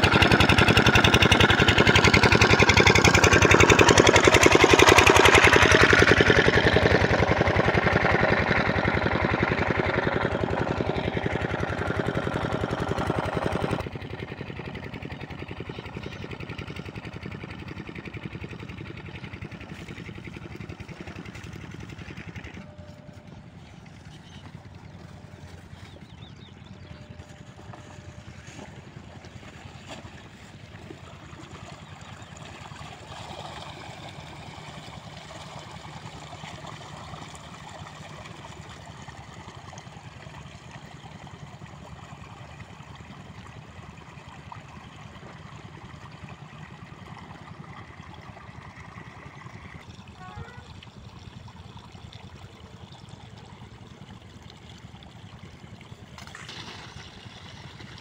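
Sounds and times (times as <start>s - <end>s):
diesel pump humming: 0.0s - 58.0s
water flowing and trickling: 0.0s - 58.0s.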